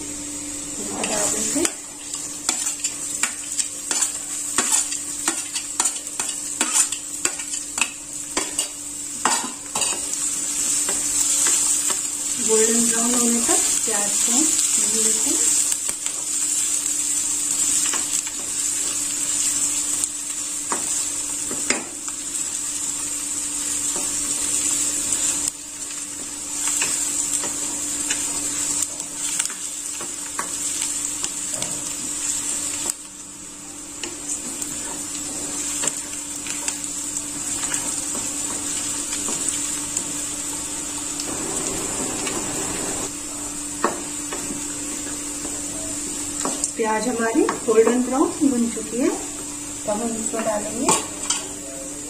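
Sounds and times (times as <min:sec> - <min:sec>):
onions sizzling in oil: 0:00.0 - 0:52.0.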